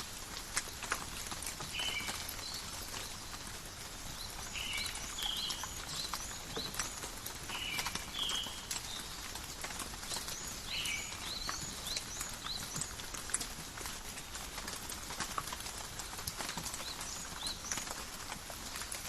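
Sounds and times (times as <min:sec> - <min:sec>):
rain pattering and dripping: 0:00.0 - 0:19.0.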